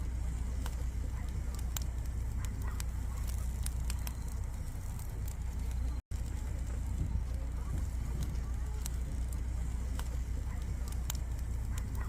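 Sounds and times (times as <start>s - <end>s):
campfire crackling: 0.0s - 12.0s
low rumble: 0.0s - 12.0s.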